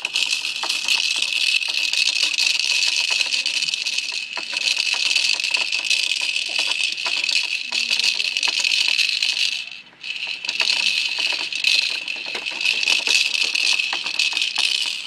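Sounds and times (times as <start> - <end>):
beads rattling in spinning roller: 0.0 - 15.0.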